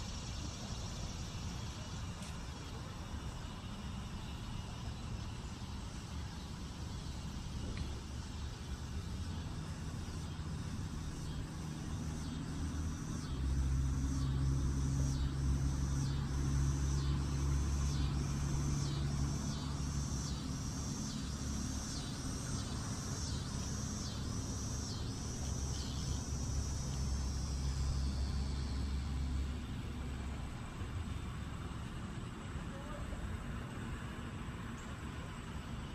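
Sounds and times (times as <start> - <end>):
low steady rumble: 0.0 - 35.9.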